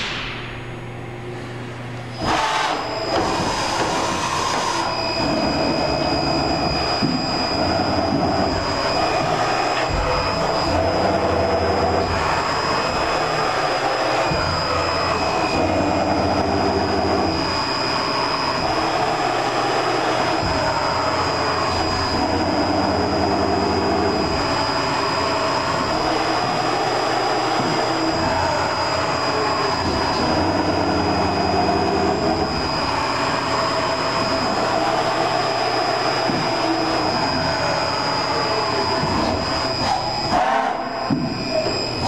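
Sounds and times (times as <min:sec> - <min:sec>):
machine humming with high whine: 0:00.0 - 0:42.0.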